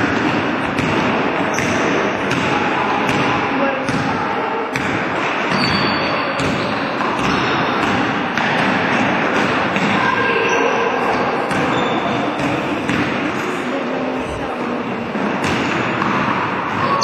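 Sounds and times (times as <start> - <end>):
echoing hall din: 0.0 - 17.0.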